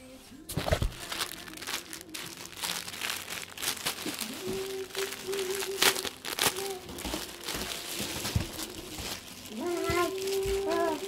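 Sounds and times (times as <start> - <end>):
packaging crinkling and rustling: 0.5 - 11.0.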